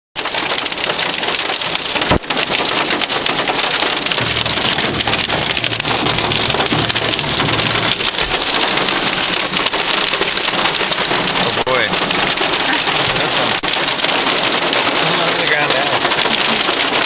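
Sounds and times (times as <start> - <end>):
hail drumming on car roof: 0.2 - 17.0.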